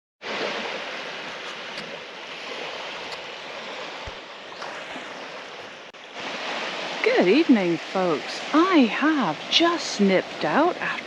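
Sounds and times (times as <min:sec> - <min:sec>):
sea waves washing onto beach: 0:00.2 - 0:11.0.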